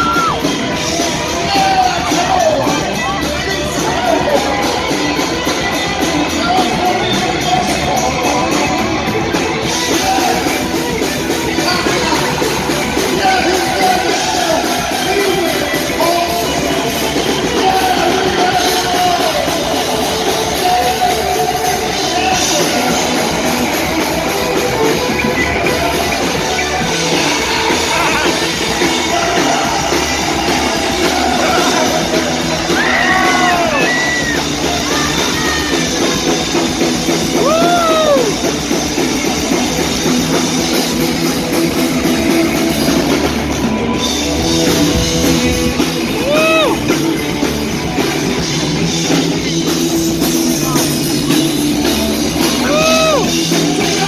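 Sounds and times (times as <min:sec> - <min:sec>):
person singing: 0:00.0 - 0:39.5, 0:44.4 - 0:47.4, 0:50.5 - 0:54.0
drum kit: 0:00.0 - 0:54.0
electric guitars: 0:00.0 - 0:54.0
heavy metal band playing live: 0:00.0 - 0:54.0.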